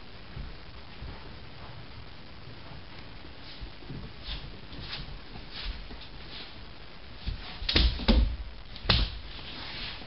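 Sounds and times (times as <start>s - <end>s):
faint scuffling: 0.0s - 10.0s.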